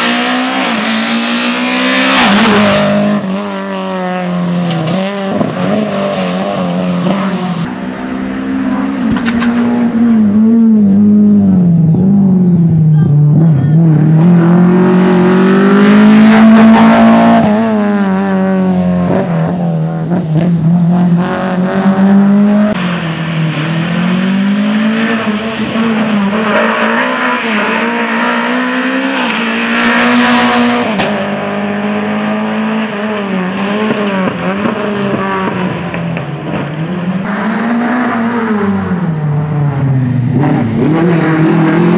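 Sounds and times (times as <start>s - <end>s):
rally car engine revving: 0.0s - 41.9s.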